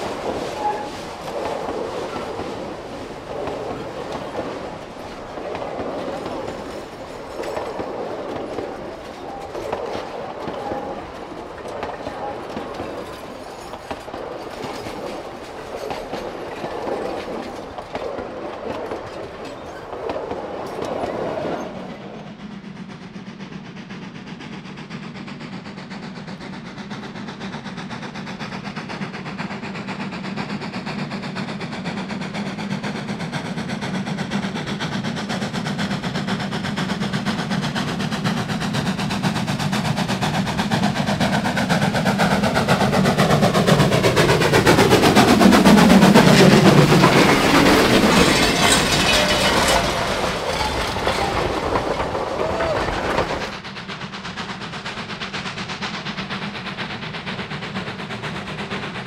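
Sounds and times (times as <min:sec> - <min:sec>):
steam locomotive working: 0:00.0 - 0:59.0
train wheels clicking over rail joints: 0:00.0 - 0:59.0.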